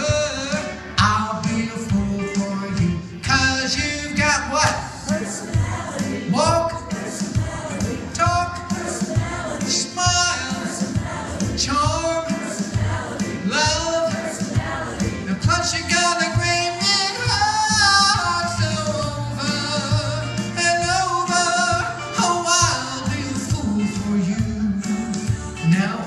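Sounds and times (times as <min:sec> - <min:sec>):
backing music track: 0:00.0 - 0:26.0
man singing pop song: 0:00.0 - 0:26.0.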